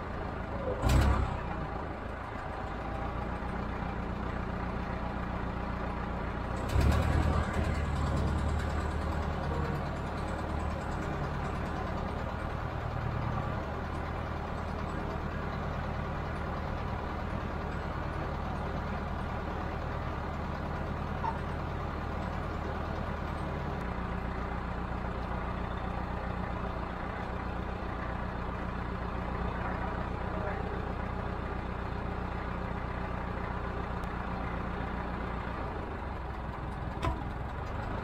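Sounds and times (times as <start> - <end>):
crane engine running: 0.0 - 38.0.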